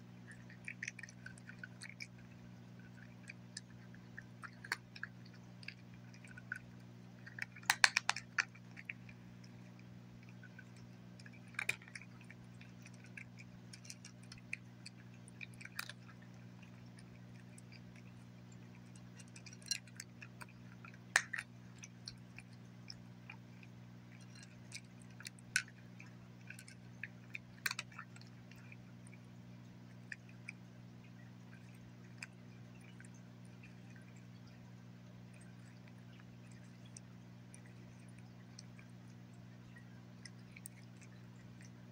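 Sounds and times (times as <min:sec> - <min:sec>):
cat chewing dry kibble: 0:00.0 - 0:41.9
faint low hum: 0:00.0 - 0:41.9.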